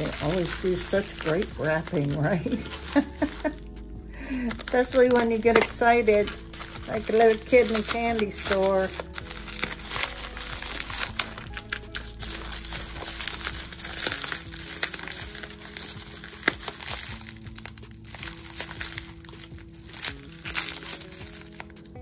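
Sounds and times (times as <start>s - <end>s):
packing wrap crinkling: 0.0s - 22.0s
soft background music: 0.0s - 22.0s.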